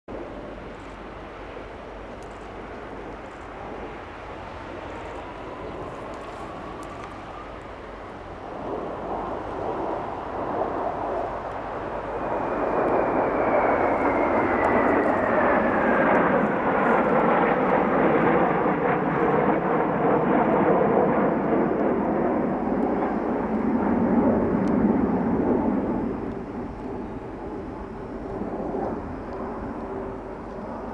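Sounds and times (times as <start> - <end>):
high jet whine falling in pitch: 0.1 - 30.9
jets flying past: 0.1 - 30.9.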